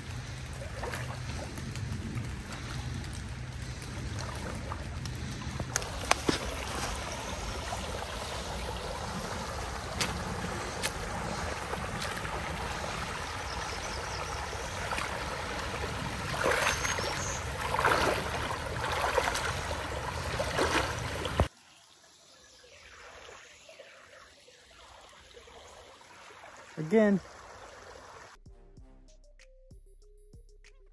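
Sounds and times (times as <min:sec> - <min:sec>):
creek water rushing: 0:00.0 - 0:28.4
water splashing: 0:00.0 - 0:28.4.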